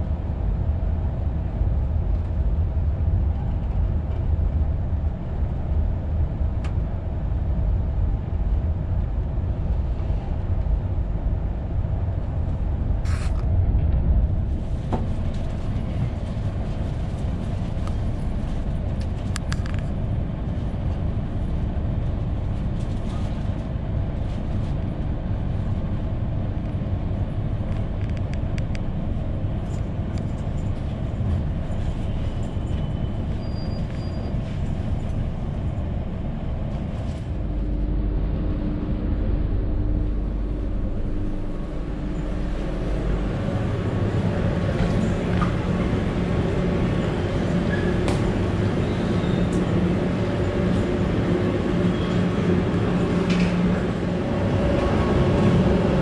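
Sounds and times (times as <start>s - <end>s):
train coach running rumble: 0.0s - 56.0s.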